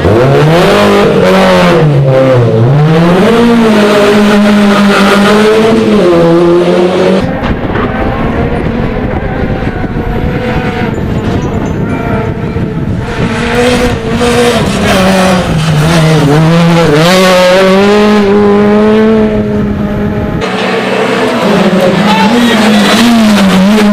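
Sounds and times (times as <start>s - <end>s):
noisy rush: 0.0s - 23.9s
rally car engine revving: 0.0s - 23.9s.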